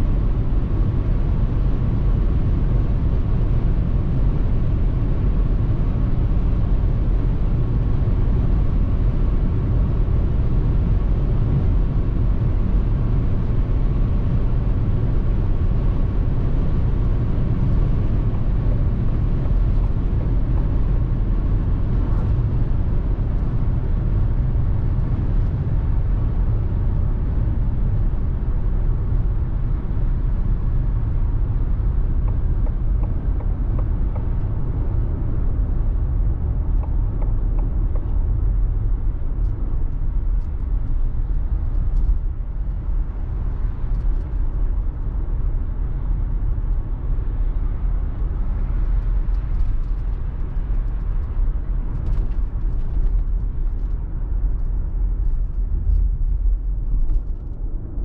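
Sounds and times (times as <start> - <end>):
car cabin tyre and wind rumble: 0.0 - 58.0.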